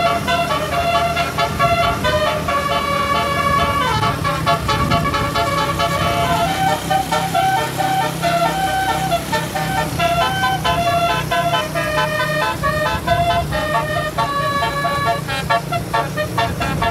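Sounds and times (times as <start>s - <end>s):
bus horn playing melody: 0.0s - 16.9s.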